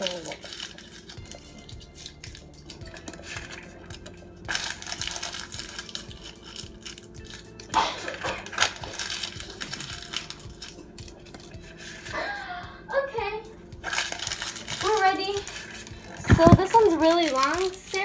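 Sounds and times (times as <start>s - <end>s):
paper liner crinkling: 0.0s - 12.1s, 13.8s - 18.0s.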